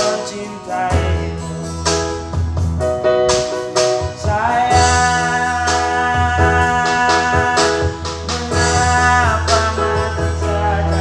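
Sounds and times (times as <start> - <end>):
instrumental love song music: 0.0 - 11.0
steady bass: 0.0 - 11.0.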